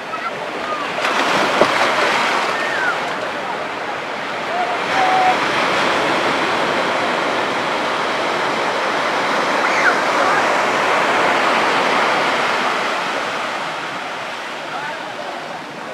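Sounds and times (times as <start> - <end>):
sea waves breaking: 0.0 - 15.9.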